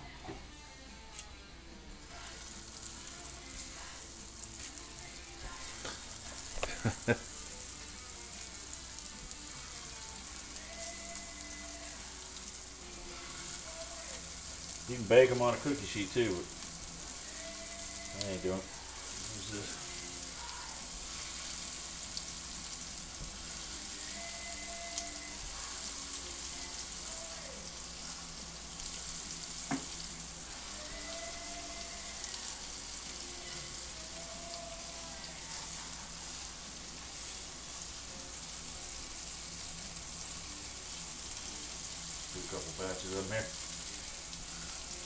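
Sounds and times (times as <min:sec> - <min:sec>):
meatballs sizzling in oil: 0:01.8 - 0:45.0.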